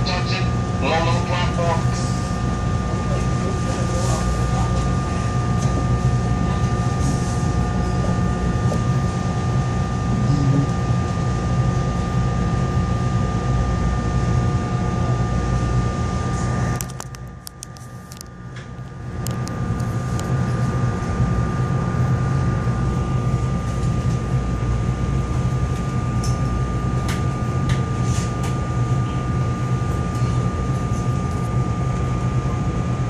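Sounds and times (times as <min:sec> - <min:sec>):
constant high hum: 0:00.0 - 0:33.0
train running rumble: 0:00.0 - 0:33.0.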